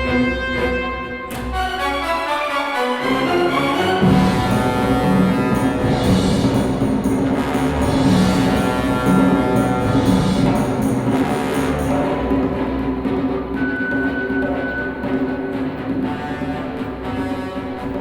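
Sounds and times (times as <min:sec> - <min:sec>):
orchestral music with drums: 0:00.0 - 0:18.0.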